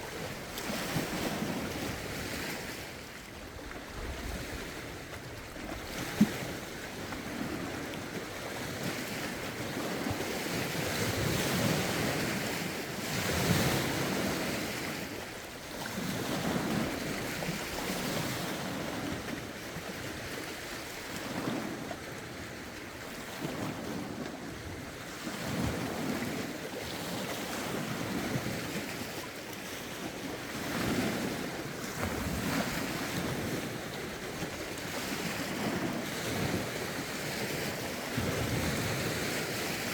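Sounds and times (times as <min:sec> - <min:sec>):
lake waves washing in: 0:00.0 - 0:39.9.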